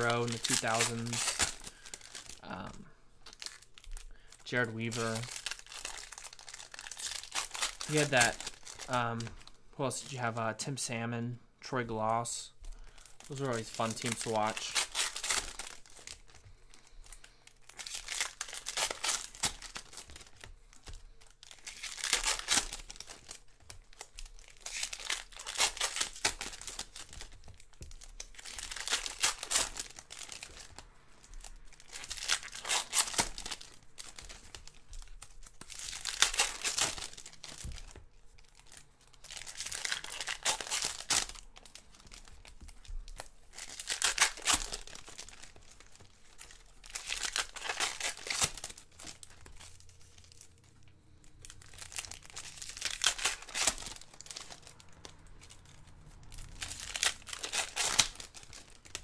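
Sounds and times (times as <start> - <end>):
foil wrappers tearing and crinkling: 0.0 - 10.3, 12.1 - 59.0.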